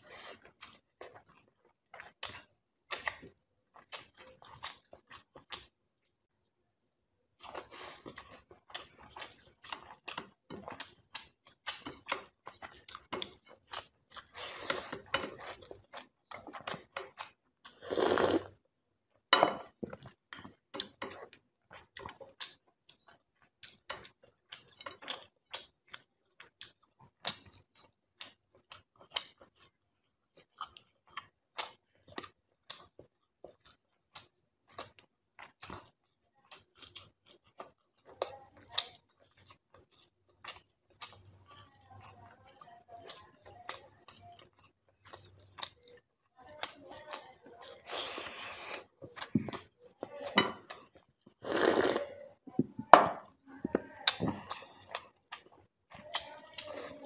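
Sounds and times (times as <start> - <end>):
wet chewing and lip smacks: 0.0 - 5.8, 7.4 - 18.3, 19.8 - 51.9, 54.0 - 56.8.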